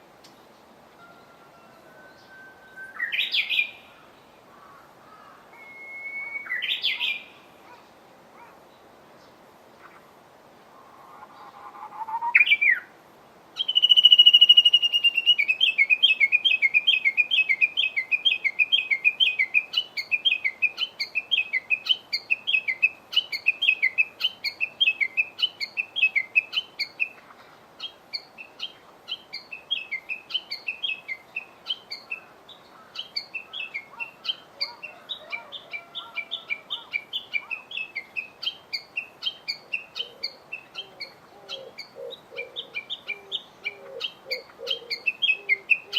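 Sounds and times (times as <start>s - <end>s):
songbird calling: 0.2s - 10.1s, 10.7s - 13.0s, 13.6s - 45.9s.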